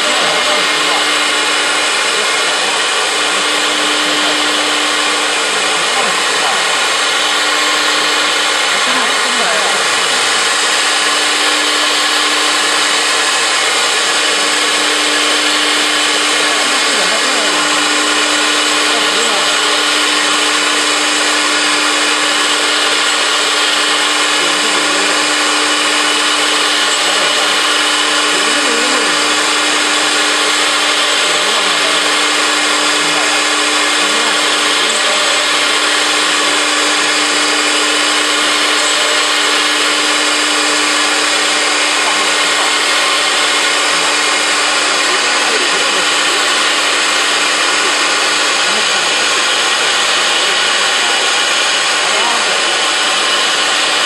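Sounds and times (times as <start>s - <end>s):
cnc router spindles whining: 0.0s - 54.0s.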